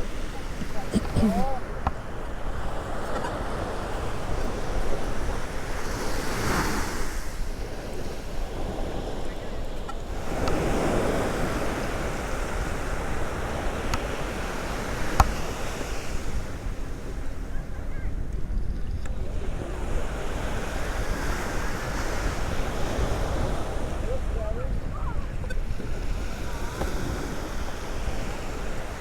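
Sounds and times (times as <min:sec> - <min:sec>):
surf washing onto beach: 0:00.0 - 0:29.0
wind buffeting microphone: 0:00.0 - 0:29.0.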